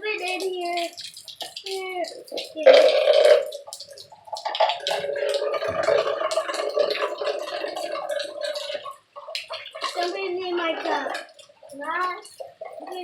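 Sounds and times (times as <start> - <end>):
rainwater pouring and splashing: 0.0 - 13.0
sharp drips and splatters: 0.0 - 13.0.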